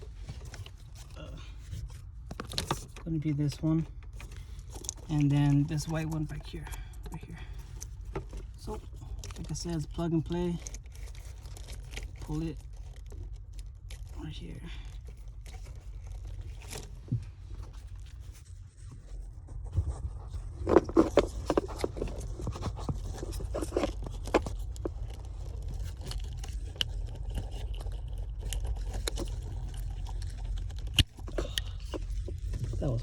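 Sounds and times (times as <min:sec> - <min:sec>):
plastic connectors scraping and clicking: 0:00.3 - 0:14.2, 0:14.9 - 0:18.4, 0:20.6 - 0:33.0.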